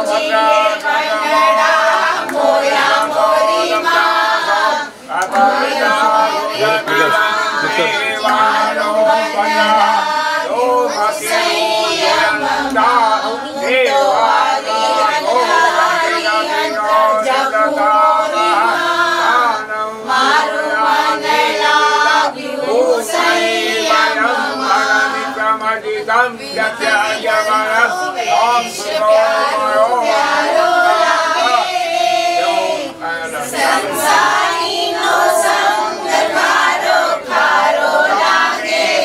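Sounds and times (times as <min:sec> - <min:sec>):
group of people singing: 0:00.0 - 0:39.0.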